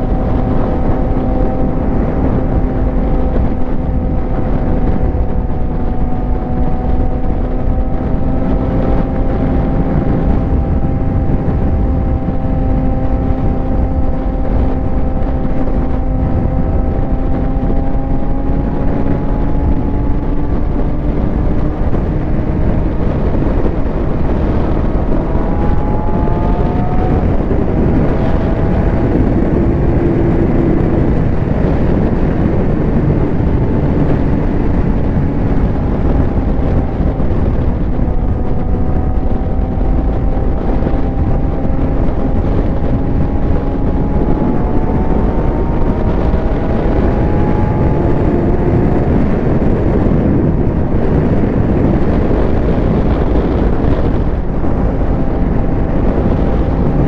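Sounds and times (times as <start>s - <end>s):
motorcycle engine at speed: 0.0s - 57.0s
wind rushing: 0.0s - 57.0s.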